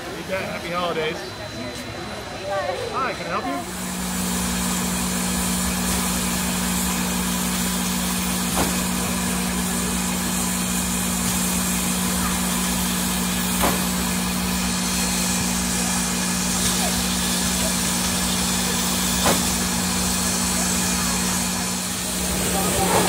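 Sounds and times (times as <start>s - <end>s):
low machinery drone: 0.0s - 23.0s
steam hiss: 3.2s - 23.0s.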